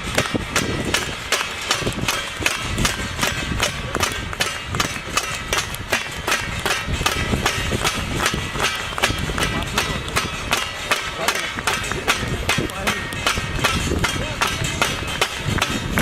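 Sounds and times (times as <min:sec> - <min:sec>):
rhythmic clapping: 0:00.0 - 0:16.0.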